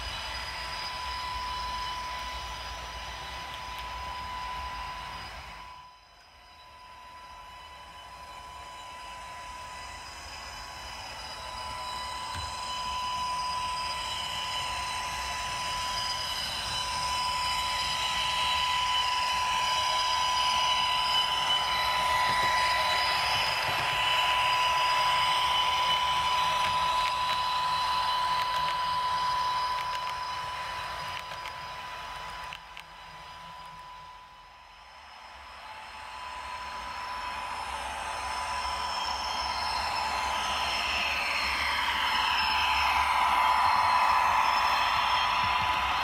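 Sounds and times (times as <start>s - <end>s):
model train motor whine: 0.0s - 46.0s
steady high tone: 0.0s - 46.0s.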